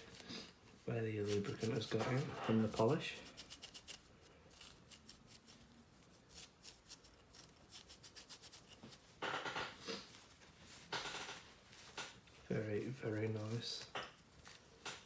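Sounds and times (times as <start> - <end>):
cloth rubbing on metal prop: 0.0 - 15.0.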